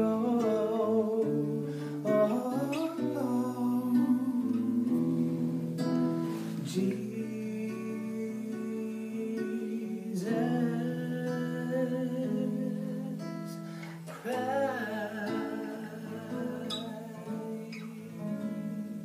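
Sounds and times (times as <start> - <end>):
acoustic guitar picked and strummed: 0.0 - 19.0
man singing: 0.0 - 19.0.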